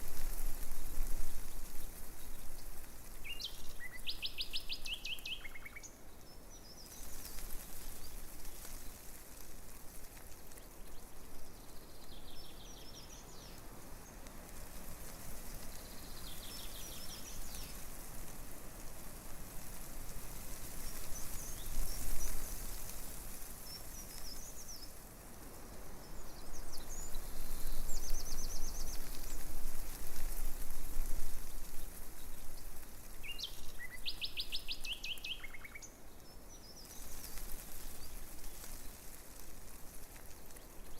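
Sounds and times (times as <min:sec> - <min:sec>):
leaves rustling in breeze: 0:00.0 - 0:40.9.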